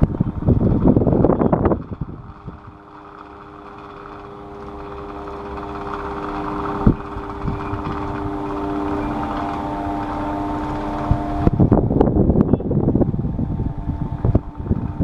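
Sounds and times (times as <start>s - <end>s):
electric fan motor hum: 0.0s - 15.0s
loud irregular rattling: 0.0s - 15.0s.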